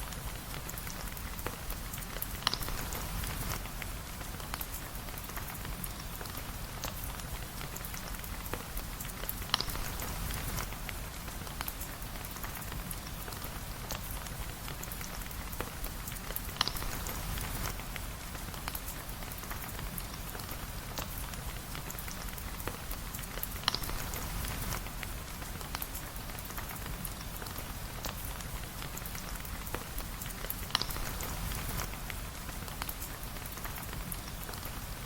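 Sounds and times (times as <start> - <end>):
steady rain: 0.0 - 35.0
wood fire popping and crackling: 0.0 - 35.0.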